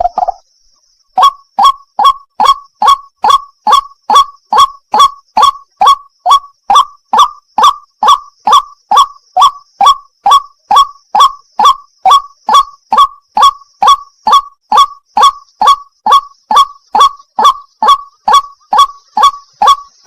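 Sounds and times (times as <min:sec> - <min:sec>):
waterhen harsh wak call: 0:01.2 - 0:20.0.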